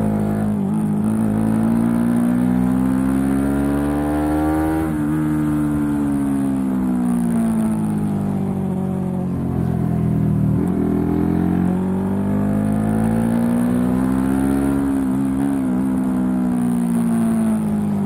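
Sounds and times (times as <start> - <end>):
motorcycle engine: 0.0 - 18.0.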